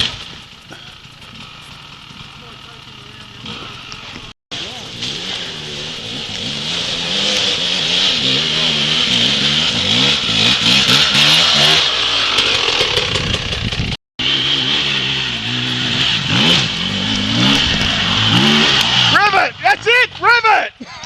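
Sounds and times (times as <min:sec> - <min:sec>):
dirt bike engine revving: 0:00.0 - 0:20.3.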